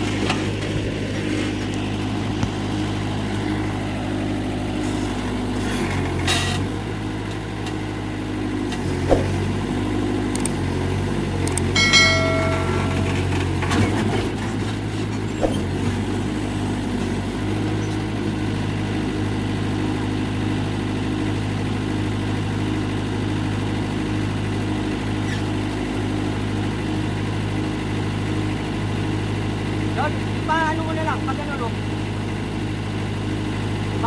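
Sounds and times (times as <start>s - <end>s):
diesel engine humming: 0.0s - 34.0s.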